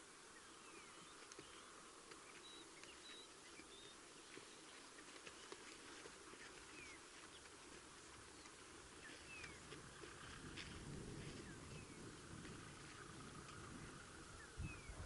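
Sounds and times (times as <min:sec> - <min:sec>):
faint outdoor bush ambience: 0:00.0 - 0:15.0
small birds chirping: 0:00.0 - 0:15.0.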